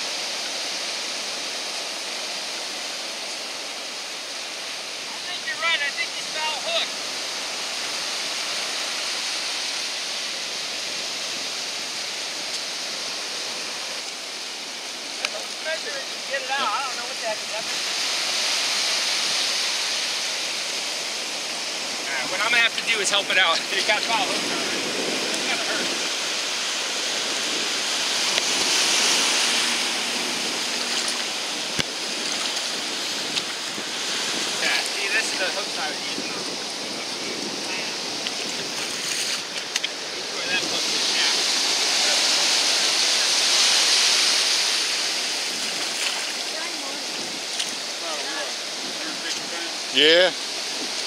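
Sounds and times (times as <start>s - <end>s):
small waves breaking on beach: 0.0s - 51.0s
surf washing over sand: 0.0s - 51.0s.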